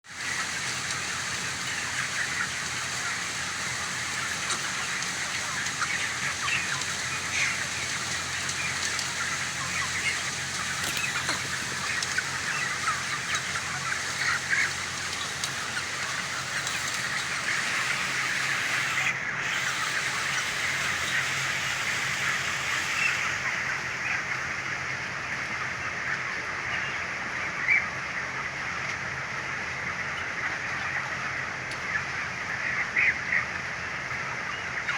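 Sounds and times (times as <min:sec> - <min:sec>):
chicks chirping: 0:00.2 - 0:34.9.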